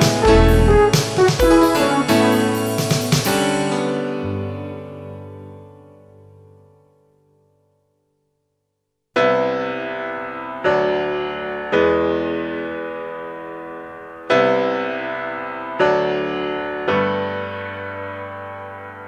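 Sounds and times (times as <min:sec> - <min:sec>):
slow piano chords: 0:00.0 - 0:07.0, 0:09.2 - 0:19.0.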